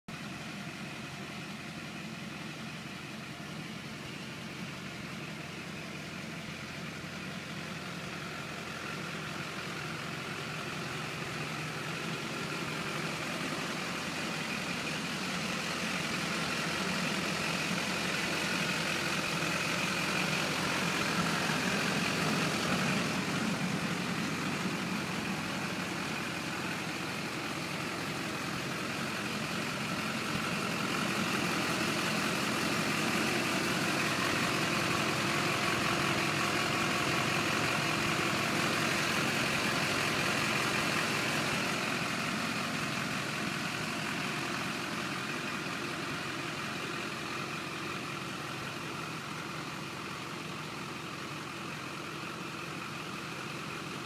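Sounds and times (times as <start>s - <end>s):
diesel engine idling: 0.1s - 54.0s.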